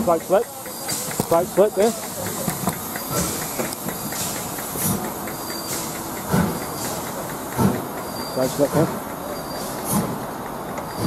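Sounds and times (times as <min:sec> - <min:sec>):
steam hissing: 0:00.0 - 0:11.0
steam locomotive exhaust chuffs: 0:00.0 - 0:11.0.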